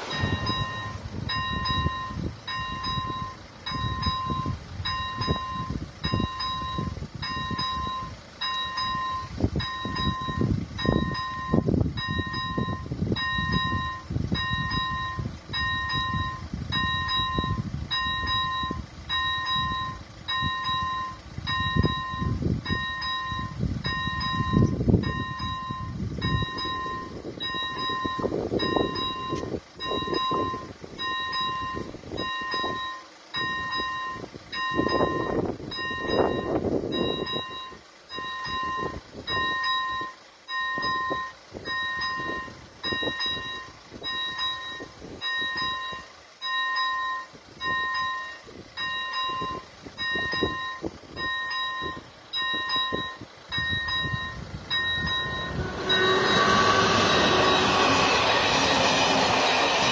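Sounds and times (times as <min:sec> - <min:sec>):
level crossing warning bell: 0:00.0 - 0:59.0
irregular low rumble: 0:00.0 - 0:59.9.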